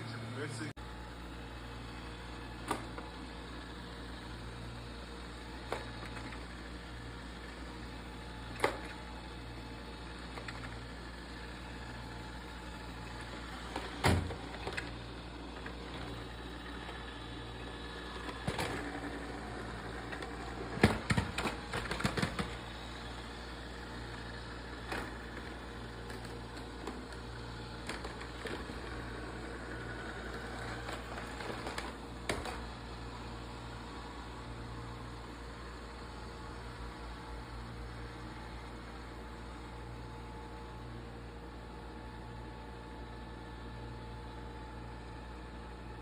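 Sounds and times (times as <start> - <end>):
robot vacuum humming: 0.0 - 46.0.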